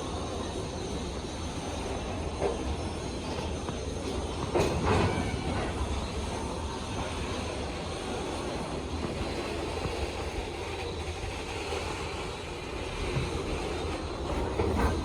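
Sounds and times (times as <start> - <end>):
freight train passing slowly: 0.0 - 15.0.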